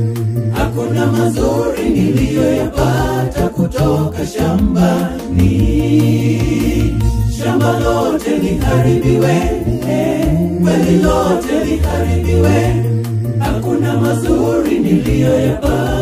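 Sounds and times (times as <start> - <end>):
choir singing a cappella: 0.2 - 16.0.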